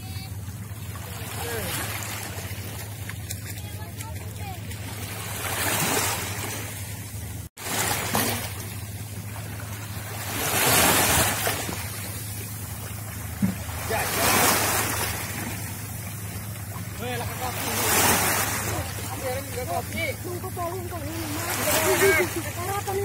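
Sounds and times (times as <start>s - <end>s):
waves washing onto stony shore: 0.1s - 23.0s.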